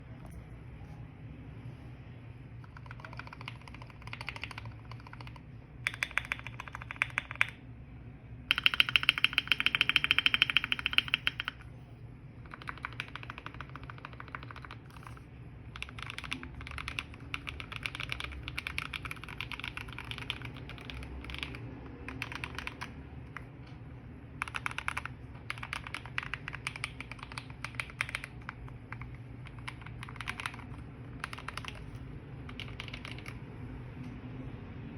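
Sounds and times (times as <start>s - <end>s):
typing on mechanical keyboard: 2.6s - 7.6s, 8.5s - 11.7s, 12.4s - 33.5s.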